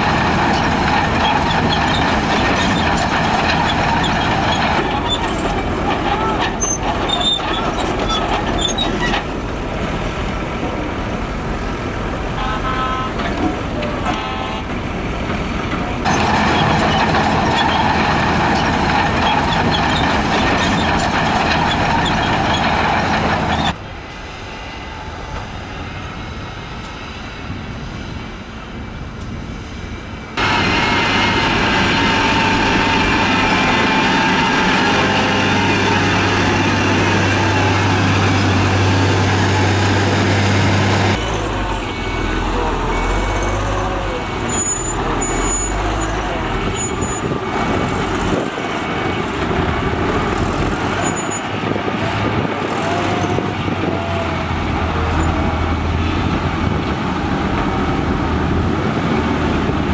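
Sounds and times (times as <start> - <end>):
engine whine: 0.0 - 59.9
heavy machinery diesel engines: 0.0 - 59.9.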